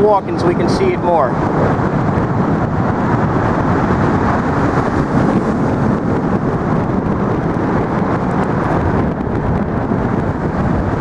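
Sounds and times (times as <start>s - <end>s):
road traffic rumble: 0.0s - 11.0s
wind buffeting microphone: 0.0s - 11.0s.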